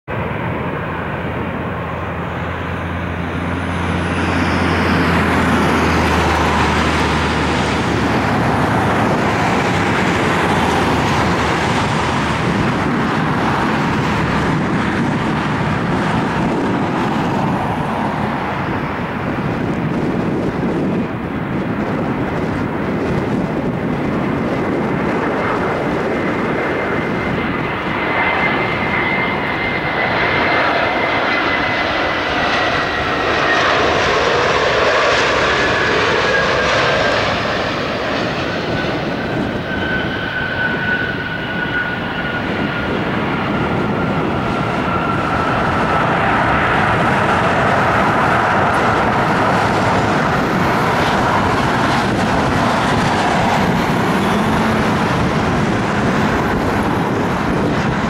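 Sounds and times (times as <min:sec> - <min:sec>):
jet engine whine: 0:00.0 - 0:58.0
reverse thrust roar: 0:00.1 - 0:58.0.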